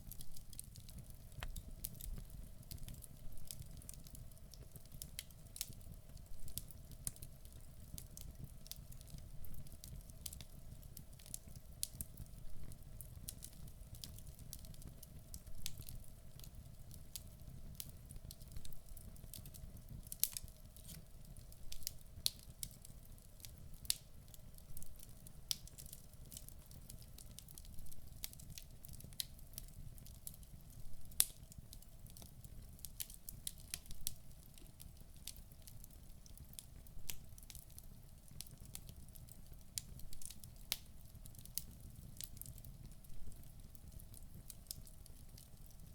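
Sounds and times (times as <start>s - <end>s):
fire crackling and popping: 0.0s - 45.9s
log fire burning: 0.0s - 45.9s.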